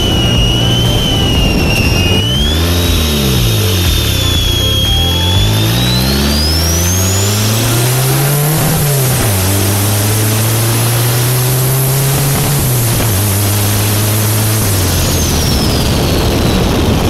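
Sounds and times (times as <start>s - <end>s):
turbo whistle: 0.0s - 16.9s
car engine accelerating: 0.0s - 17.0s
wind and tyre noise: 0.0s - 17.0s.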